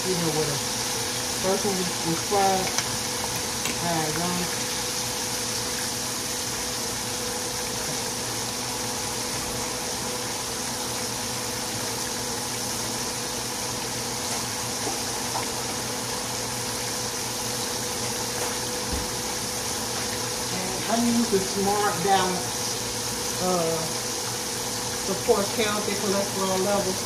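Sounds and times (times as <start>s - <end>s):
pork chops sizzling in oil: 0.0s - 27.0s.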